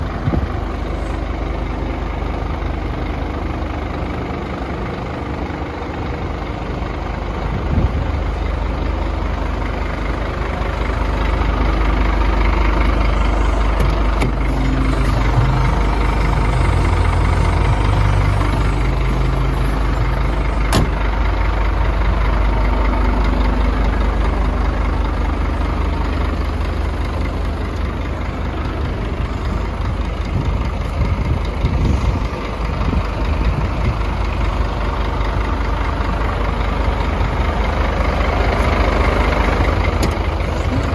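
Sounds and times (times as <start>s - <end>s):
truck diesel engine idling: 0.0s - 40.9s.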